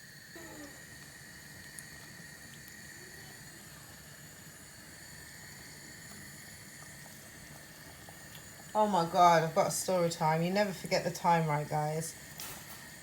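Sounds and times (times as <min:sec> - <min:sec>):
dumplings sizzling in hot oil: 0:00.0 - 0:13.0.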